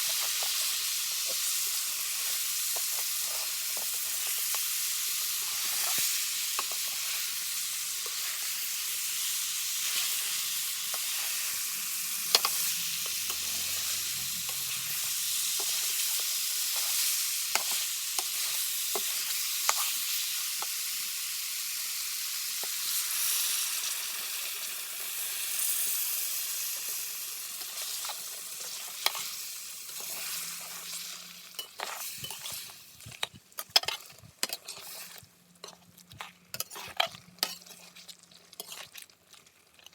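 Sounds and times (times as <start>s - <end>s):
spoon scraping pan: 0.0s - 20.8s, 26.9s - 39.0s
curry sizzling in pan: 0.0s - 39.9s.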